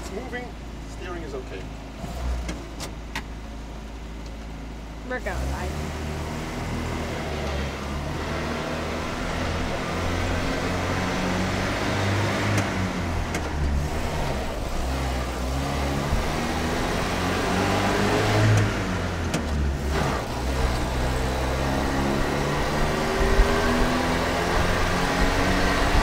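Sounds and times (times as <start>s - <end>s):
truck engine driving off: 0.0s - 26.0s.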